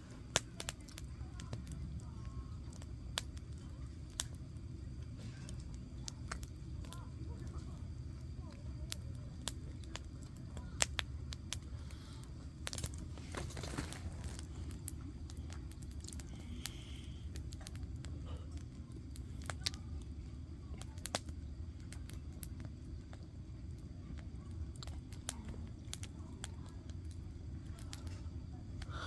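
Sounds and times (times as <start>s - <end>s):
burning logs snapping: 0.0s - 29.0s
campfire crackling: 0.0s - 29.0s.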